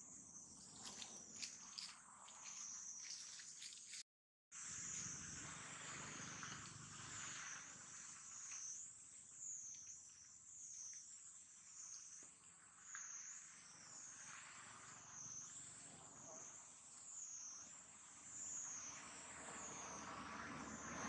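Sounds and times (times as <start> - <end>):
insects droning: 0.0 - 4.0, 4.6 - 21.0.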